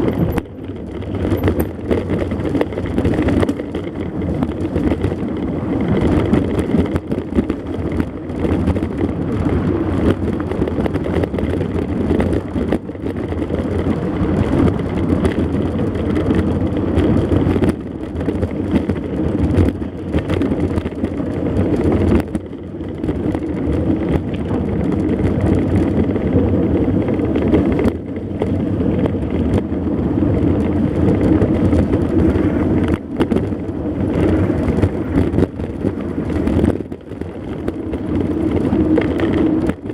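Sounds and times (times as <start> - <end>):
bike tyres rumbling on trail: 0.0 - 39.9
wind on microphone: 0.0 - 39.9.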